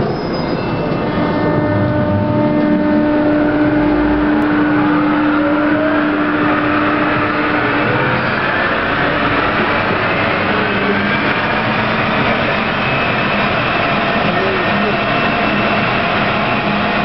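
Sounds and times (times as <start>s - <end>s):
metro train accelerating: 0.0s - 17.0s
traction motor whine: 0.8s - 17.0s.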